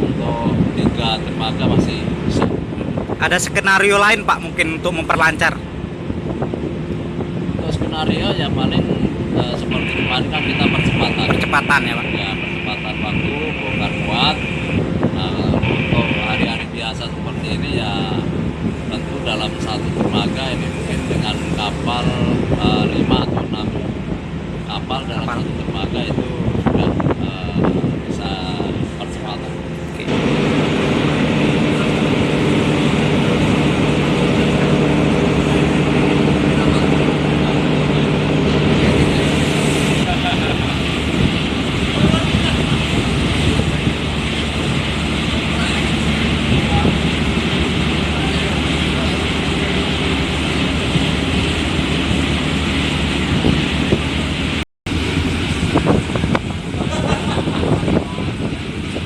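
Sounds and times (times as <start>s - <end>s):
large diesel engine droning: 0.0s - 59.0s
wind on microphone: 0.0s - 59.0s.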